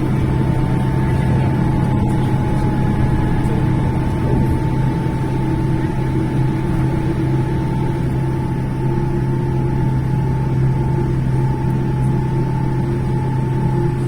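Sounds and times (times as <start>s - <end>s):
airplane cabin engine hum: 0.0s - 14.0s
mid-pitched engine whine: 0.0s - 14.0s.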